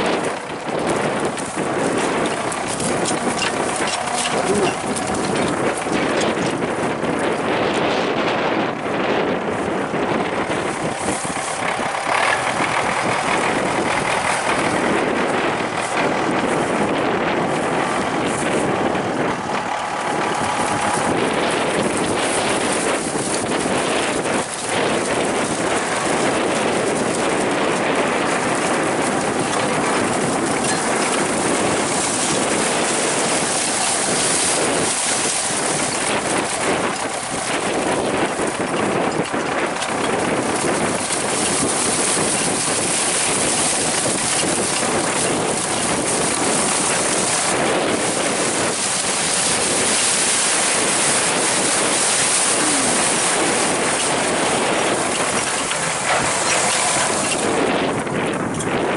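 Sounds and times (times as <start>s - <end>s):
tractor engine running: 0.0s - 58.9s
wind buffeting microphone: 0.0s - 58.9s.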